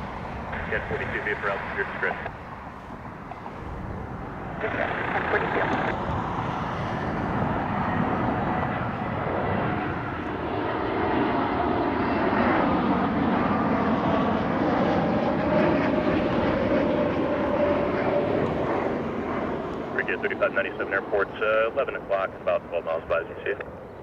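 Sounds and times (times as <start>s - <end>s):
faint jet engine whine: 0.0s - 24.0s
jet airliner passing: 0.0s - 24.0s.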